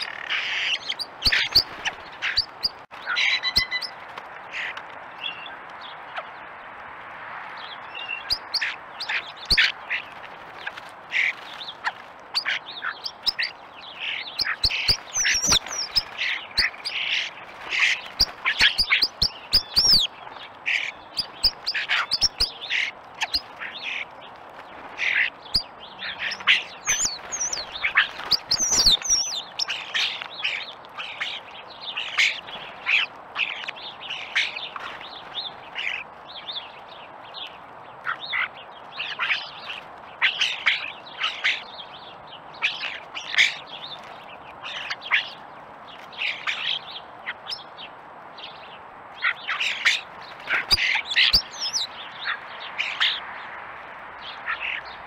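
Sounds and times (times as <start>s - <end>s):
starlings calling: 0.0s - 6.7s, 7.5s - 55.0s.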